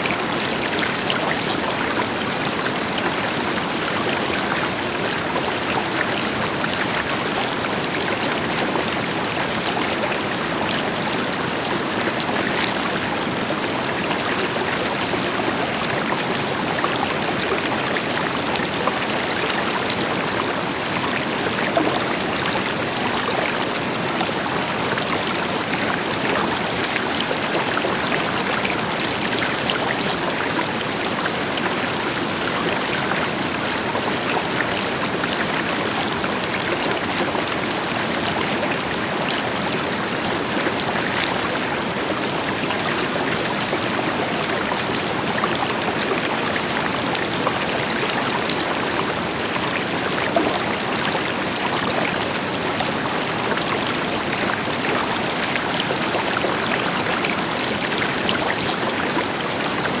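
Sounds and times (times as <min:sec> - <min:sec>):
river water splashing over rocks: 0:00.0 - 1:00.0.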